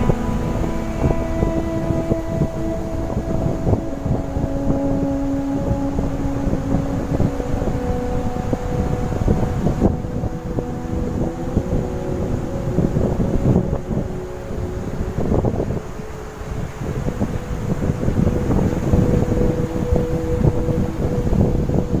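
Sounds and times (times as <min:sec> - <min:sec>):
steady held tones: 0:00.0 - 0:22.0
wind buffeting microphone: 0:00.0 - 0:22.0.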